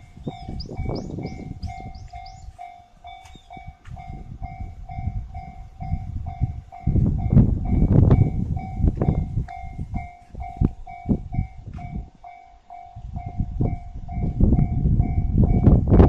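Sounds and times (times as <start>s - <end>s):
level crossing warning bell: 0.0s - 16.0s
train rumble: 0.0s - 16.0s.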